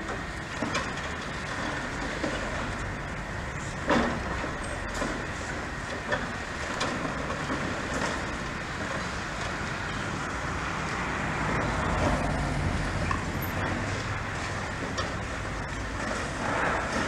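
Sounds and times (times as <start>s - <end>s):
heavy engines rumbling: 0.0s - 17.0s.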